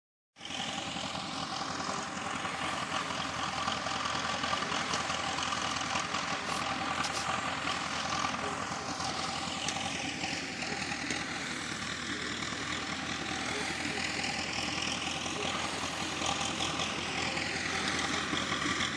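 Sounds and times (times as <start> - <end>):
heavy machinery engine running: 0.4 - 18.9.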